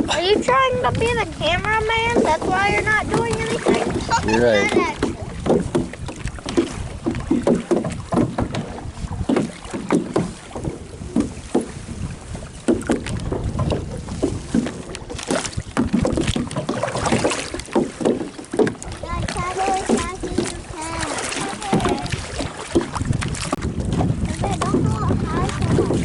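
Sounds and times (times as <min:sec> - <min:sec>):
wind rumble on microphone: 0:00.0 - 0:17.8, 0:18.6 - 0:26.0
paddle strokes: 0:00.0 - 0:26.0
water splashing against hull: 0:00.0 - 0:26.0.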